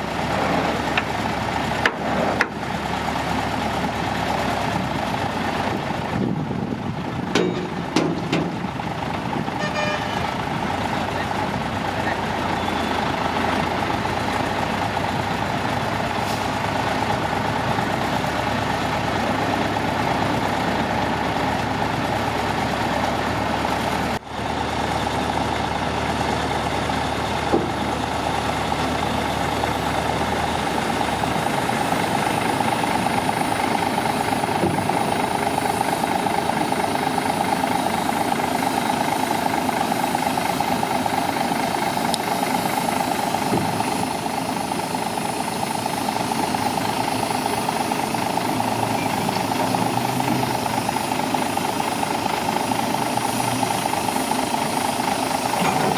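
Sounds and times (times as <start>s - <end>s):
heavy diesel engines running: 0.0s - 55.9s.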